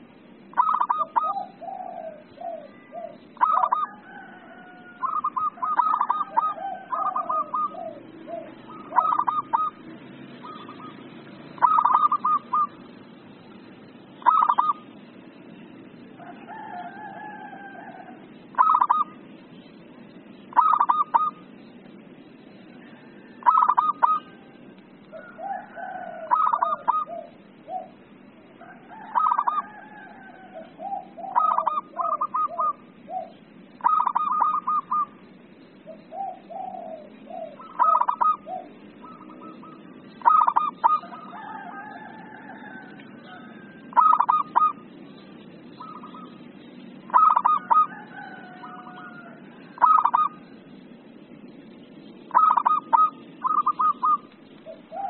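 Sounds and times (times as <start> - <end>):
dove staccato cooing: 0.0 - 13.1, 13.9 - 15.1, 16.2 - 19.4, 20.1 - 21.6, 22.7 - 55.0
soft low warbling calls: 0.0 - 55.0.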